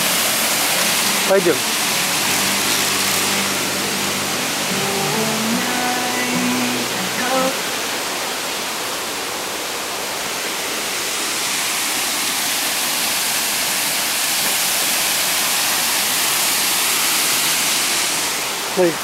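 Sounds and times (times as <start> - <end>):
waterfall pouring over rocks: 0.0 - 19.0.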